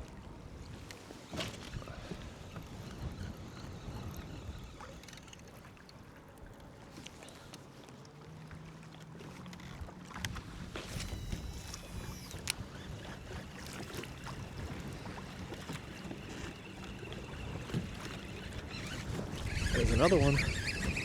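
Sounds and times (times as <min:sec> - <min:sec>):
water lapping against kayak hull: 0:00.0 - 0:21.0
wind: 0:00.0 - 0:21.0.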